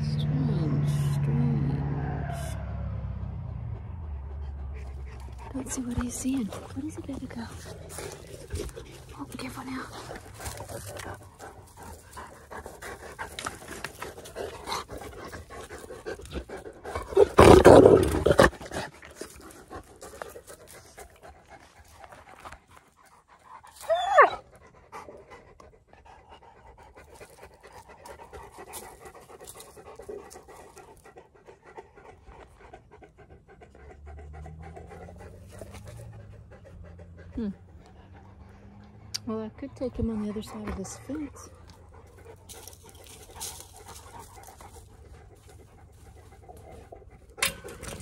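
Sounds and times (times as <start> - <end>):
dog panting: 3.8 - 17.4, 18.3 - 48.0.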